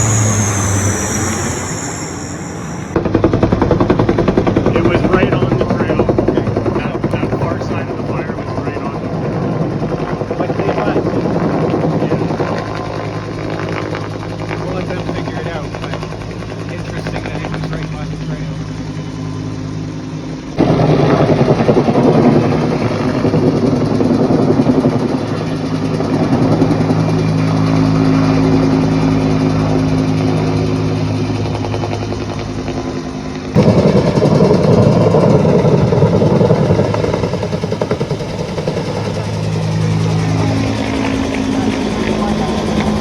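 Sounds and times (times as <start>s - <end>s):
engine droning: 0.0s - 43.0s
rough engine rumble: 0.0s - 43.0s.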